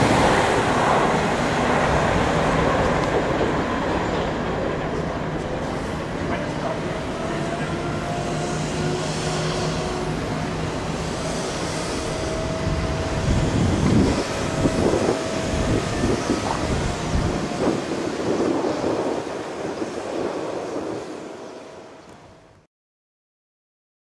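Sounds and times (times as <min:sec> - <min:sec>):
train mechanical hum: 0:02.2 - 0:22.6.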